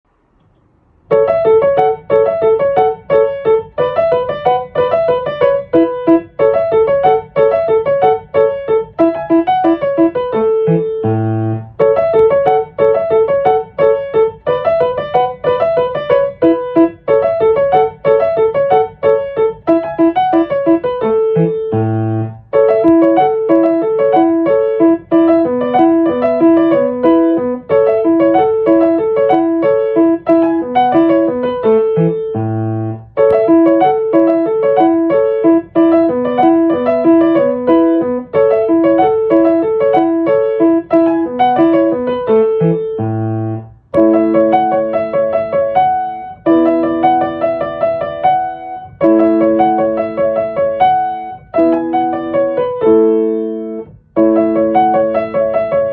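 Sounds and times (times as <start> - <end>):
solo piano music: 0.1 - 55.9.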